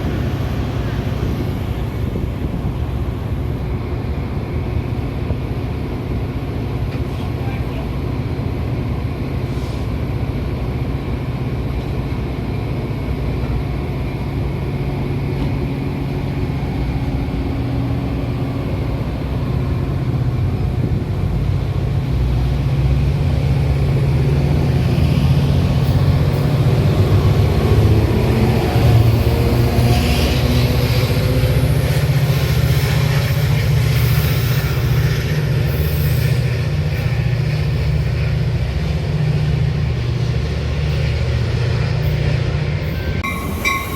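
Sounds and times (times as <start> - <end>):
train rumbling: 0.0 - 43.9.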